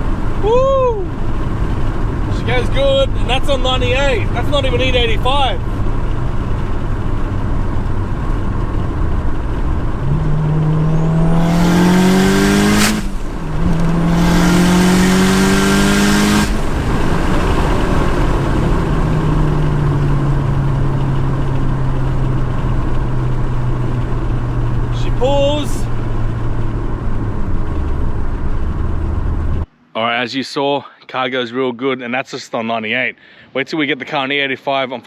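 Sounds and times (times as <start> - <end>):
turbocharged car engine accelerating: 0.0 - 29.6.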